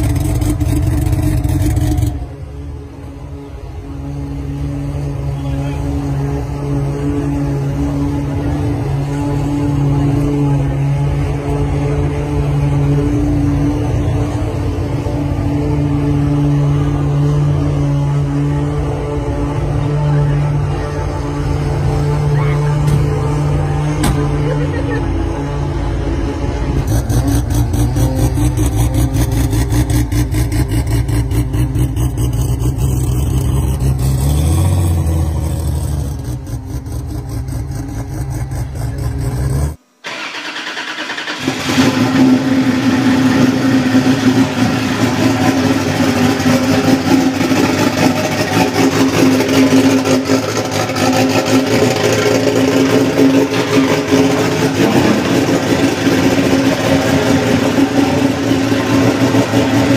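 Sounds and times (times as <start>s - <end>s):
turbocharged car engine idling: 0.0s - 59.9s.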